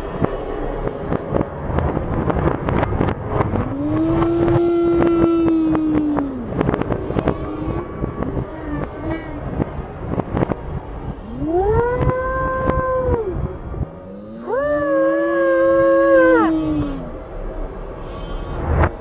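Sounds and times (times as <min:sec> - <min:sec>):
long howling tone: 0:00.0 - 0:19.0.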